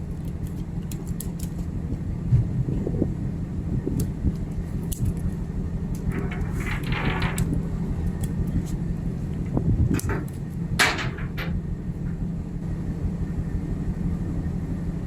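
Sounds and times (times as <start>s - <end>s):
low hum of ship machinery: 0.0s - 15.0s.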